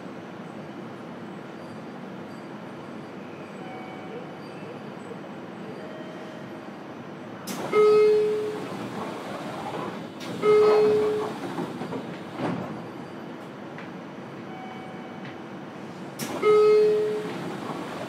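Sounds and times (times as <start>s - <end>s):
train interior hum: 0.0s - 18.0s.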